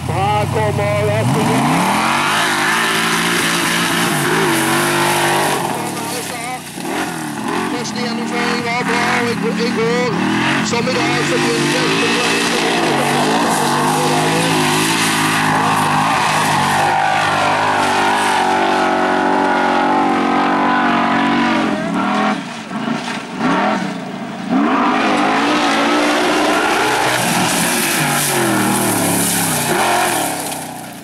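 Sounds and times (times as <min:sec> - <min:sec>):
buggy engine revving at high revs: 0:00.0 - 0:31.0.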